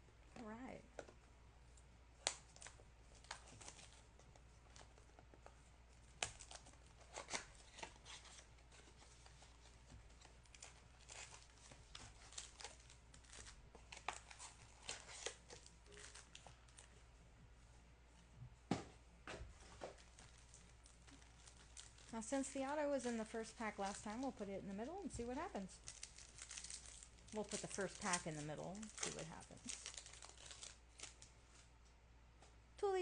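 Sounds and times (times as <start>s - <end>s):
card packs rustling and crinkling: 2.2s - 16.9s, 19.5s - 31.7s.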